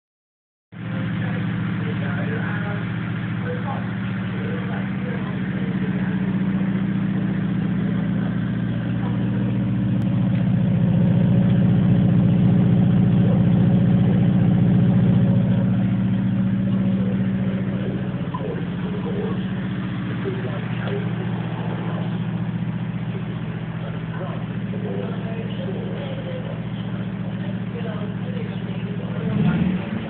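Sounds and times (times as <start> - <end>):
car engine idling at exhaust: 0.7 - 30.0.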